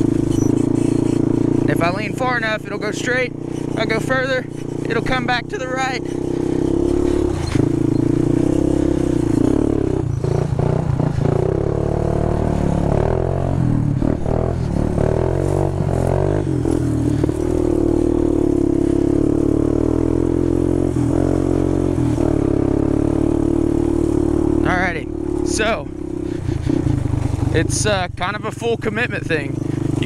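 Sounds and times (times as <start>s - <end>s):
quad engine running: 0.0s - 30.0s.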